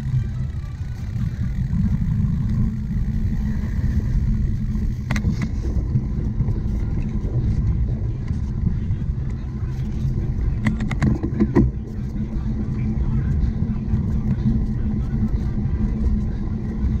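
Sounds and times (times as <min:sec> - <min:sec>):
bike tyres rumbling: 0:00.0 - 0:17.0
wind on microphone: 0:00.0 - 0:17.0.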